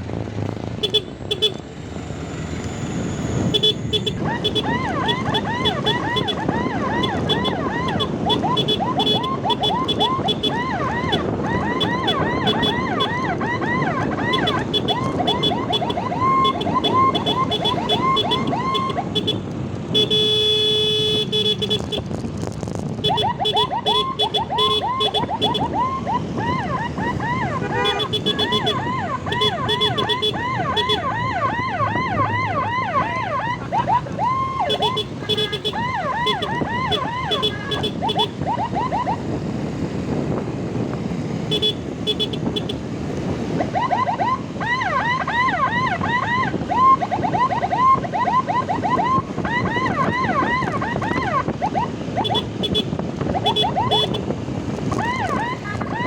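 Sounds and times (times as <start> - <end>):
road and engine noise: 0.0 - 56.0
electronic siren yelping: 2.5 - 19.4, 23.0 - 42.7, 43.3 - 56.0.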